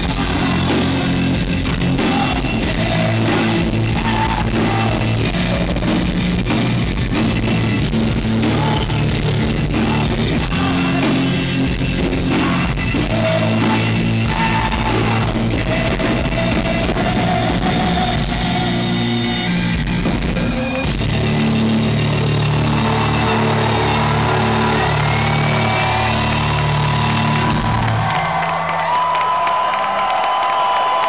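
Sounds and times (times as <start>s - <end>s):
live heavy metal cello band: 0.0s - 29.4s
drum kit: 0.0s - 31.0s.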